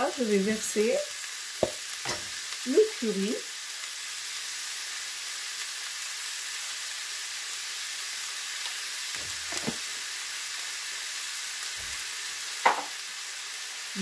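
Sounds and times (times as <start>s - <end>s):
filling sizzling in frying pan: 0.0s - 14.0s.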